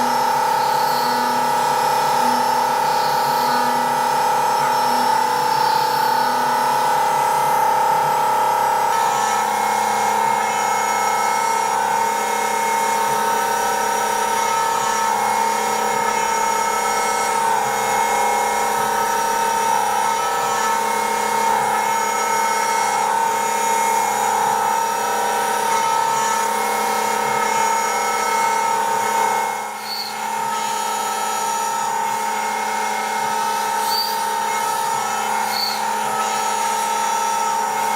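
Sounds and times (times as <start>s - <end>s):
electric power tool whining: 0.0s - 37.9s.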